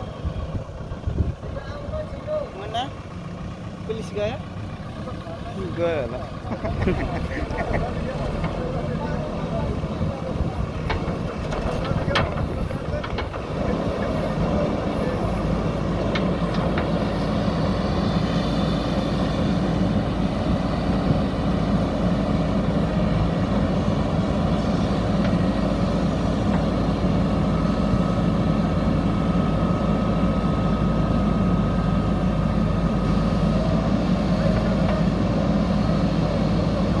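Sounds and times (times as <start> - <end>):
diesel engine running: 0.0 - 37.0
thin steady whine: 5.0 - 37.0.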